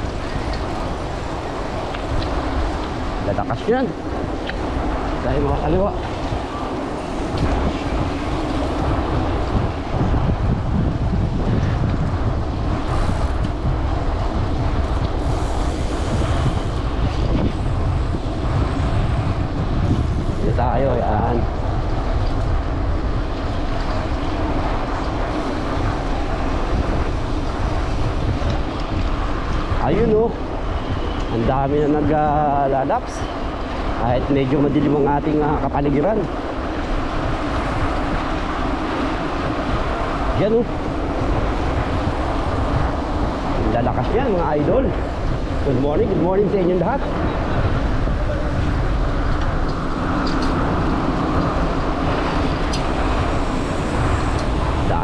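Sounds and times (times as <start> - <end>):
bicycle road noise: 0.0 - 55.0
traffic noise: 0.0 - 55.0
wind buffeting microphone: 0.0 - 55.0.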